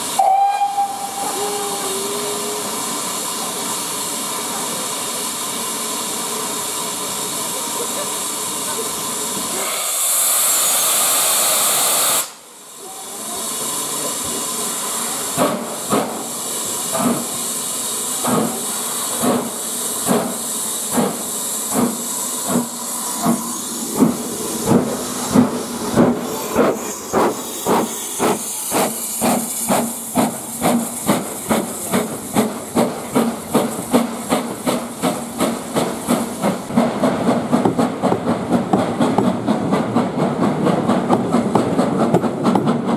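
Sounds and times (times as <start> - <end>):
steam locomotive hissing: 0.0 - 42.9.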